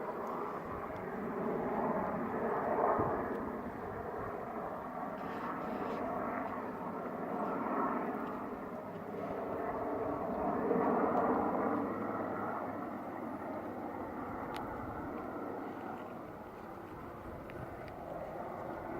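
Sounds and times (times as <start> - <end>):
helicopter engine and rotor: 0.0 - 18.9.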